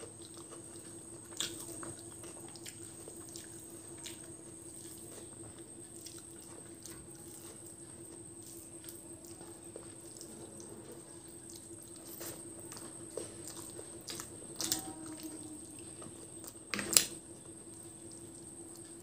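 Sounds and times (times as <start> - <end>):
fingers squishing rice and gravy: 0.0 - 19.0.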